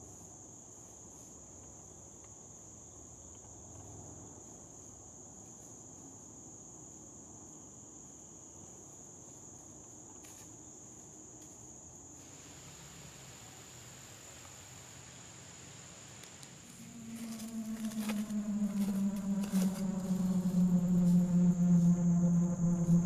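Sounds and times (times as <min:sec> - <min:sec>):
insect chorus drone: 0:00.0 - 0:23.0.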